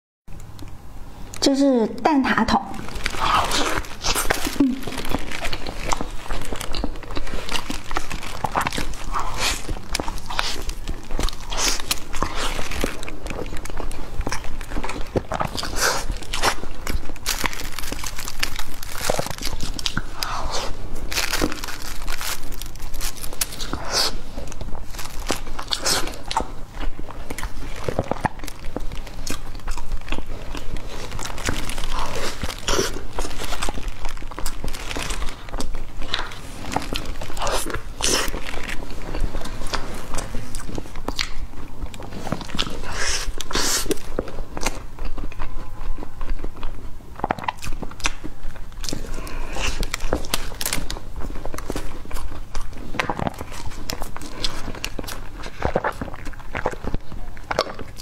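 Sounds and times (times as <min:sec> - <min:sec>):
pastry crust crunching: 0:02.8 - 0:58.0
wet chewing mouth sounds: 0:02.8 - 0:58.0.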